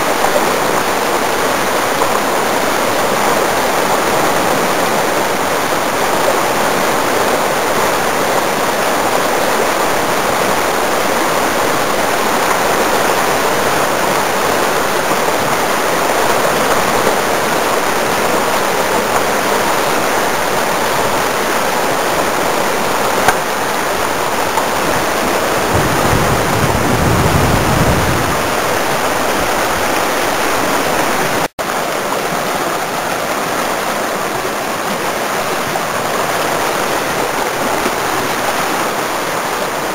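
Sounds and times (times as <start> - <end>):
creek rapid rushing: 0.0 - 39.9.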